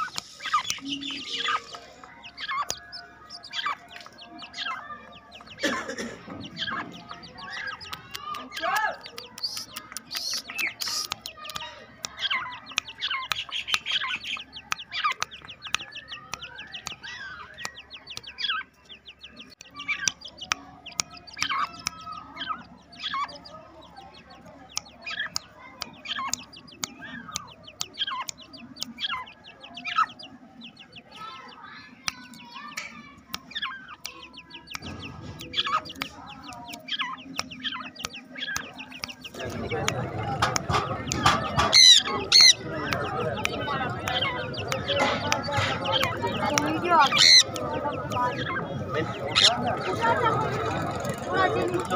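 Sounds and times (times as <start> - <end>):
caged birds chirping and clucking: 0.0 - 51.9.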